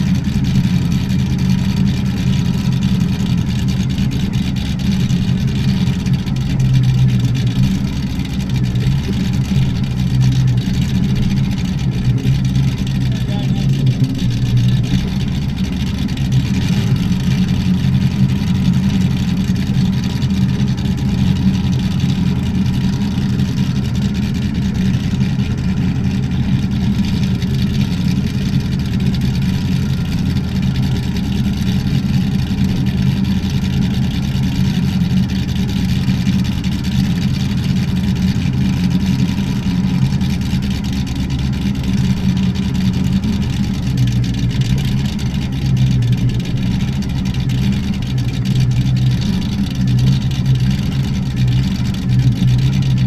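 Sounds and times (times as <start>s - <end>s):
boat engine running steadily: 0.0s - 53.0s.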